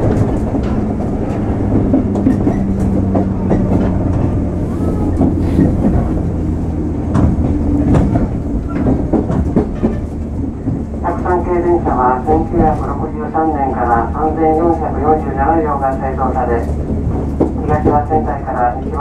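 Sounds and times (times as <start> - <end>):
wheels clacking over rail joints: 0.0 - 11.0, 14.6 - 19.0
train running gear rumble: 0.0 - 19.0.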